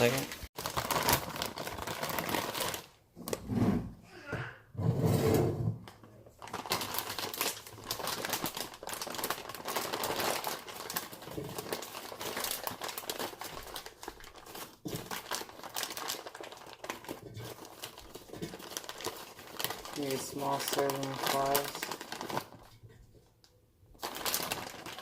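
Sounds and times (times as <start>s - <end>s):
plastic bag crinkling: 0.0s - 3.0s, 6.4s - 23.3s, 23.9s - 25.0s.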